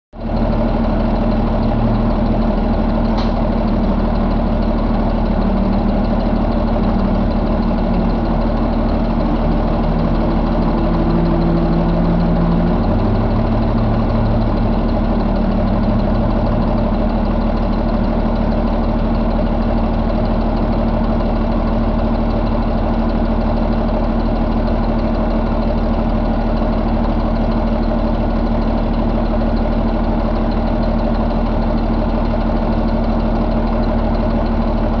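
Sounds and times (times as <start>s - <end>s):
diesel engine idling: 0.2s - 35.0s
engine tick: 0.2s - 35.0s.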